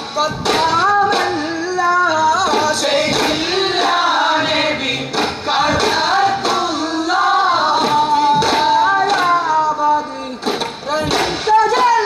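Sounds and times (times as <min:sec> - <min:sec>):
group singing folk song: 0:00.0 - 0:12.0
sharp percussive strikes: 0:00.0 - 0:12.0.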